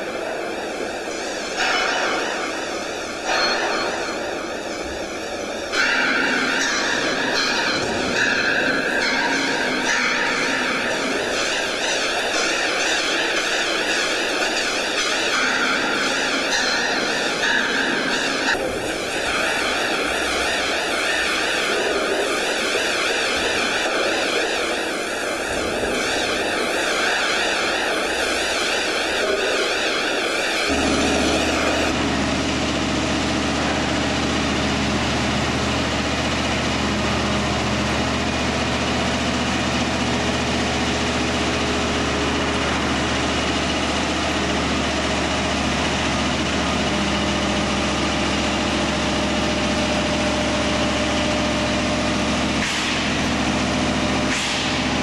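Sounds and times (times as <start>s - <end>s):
diesel engine running: 0.0s - 55.0s
wavering mechanical whine: 0.0s - 55.0s.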